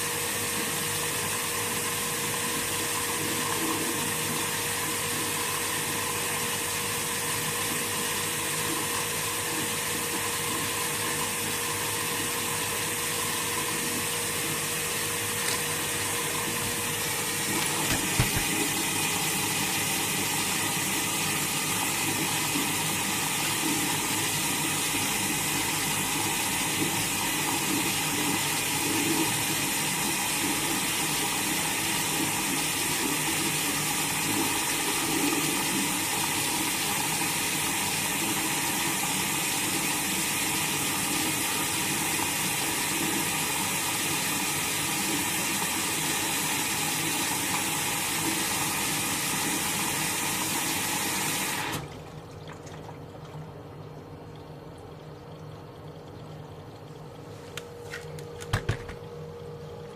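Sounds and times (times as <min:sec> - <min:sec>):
water flowing into washing machine: 0:00.0 - 0:59.9.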